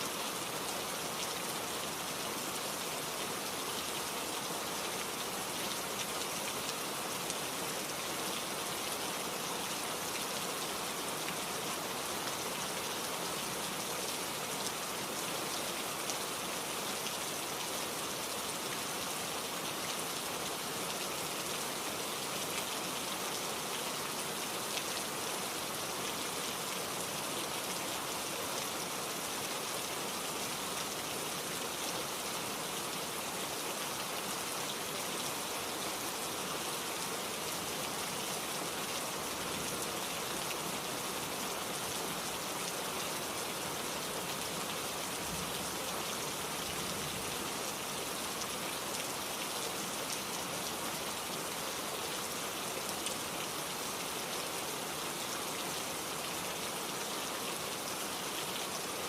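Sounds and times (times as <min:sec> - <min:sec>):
rain pattering on surface: 0:00.0 - 0:59.0.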